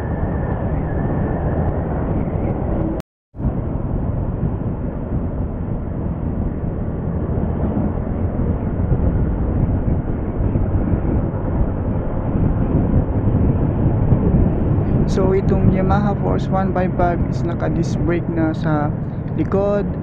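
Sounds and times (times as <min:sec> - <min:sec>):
motorcycle road noise: 0:00.0 - 0:20.0
wind rushing on microphone: 0:00.0 - 0:20.0.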